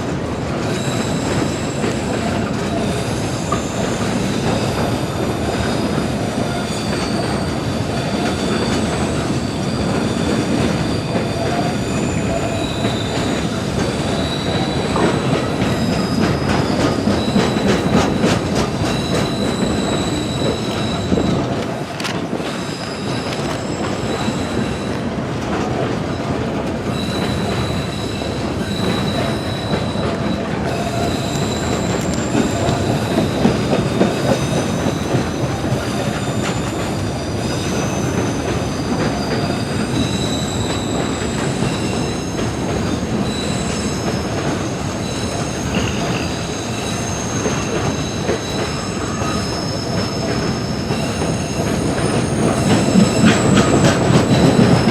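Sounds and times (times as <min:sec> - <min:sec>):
train rumbling and clattering: 0:00.0 - 0:54.9
train wheels squealing: 0:00.0 - 0:54.9.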